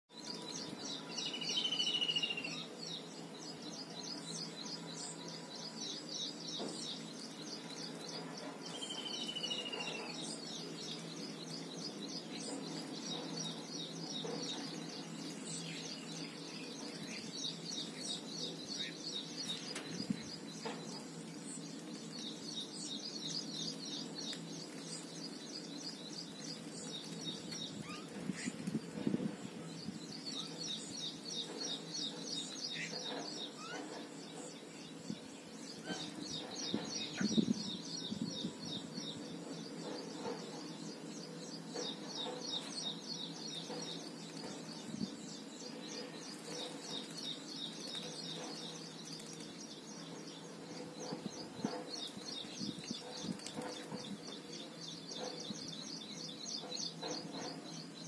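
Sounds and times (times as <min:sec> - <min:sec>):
small birds chirping: 0:00.1 - 0:58.0.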